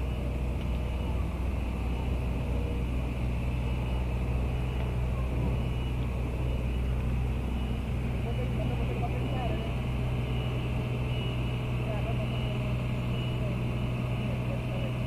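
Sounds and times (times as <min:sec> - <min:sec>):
idling road traffic rumble: 0:00.0 - 0:15.0.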